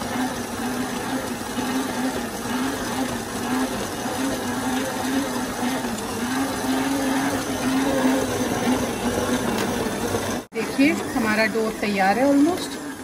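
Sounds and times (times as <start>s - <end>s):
stand mixer motor hum: 0.0s - 13.0s.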